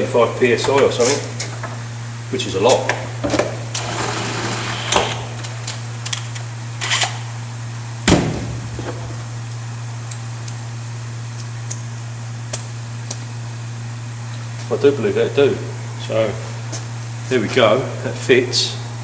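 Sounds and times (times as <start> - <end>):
air compressor humming: 0.0 - 19.0.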